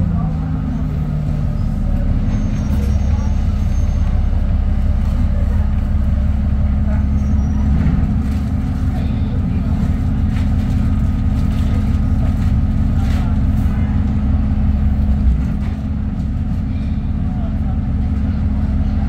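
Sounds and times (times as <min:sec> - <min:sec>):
bus diesel engine idling: 0:00.0 - 0:19.0.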